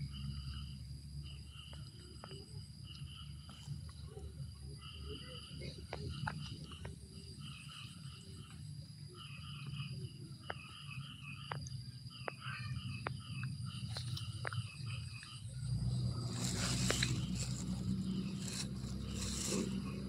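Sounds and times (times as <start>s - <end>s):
high-pitched whine: 0.0s - 20.0s.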